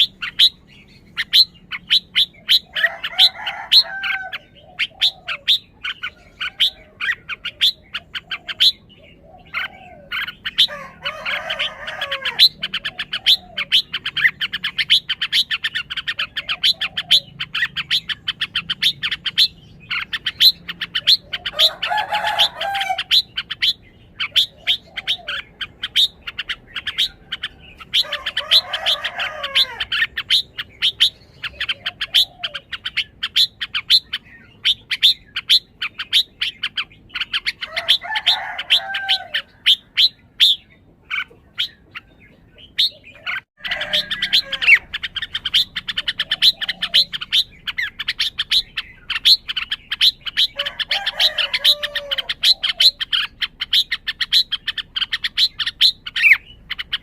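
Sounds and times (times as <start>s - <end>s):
bird chipping: 0.0s - 57.0s
bird warbling song: 0.0s - 57.0s.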